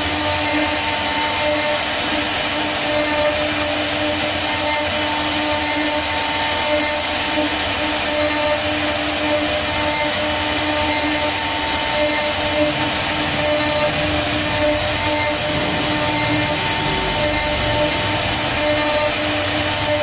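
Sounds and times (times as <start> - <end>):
bit cutting wood: 0.0 - 20.0
router spindle whining: 0.0 - 20.0.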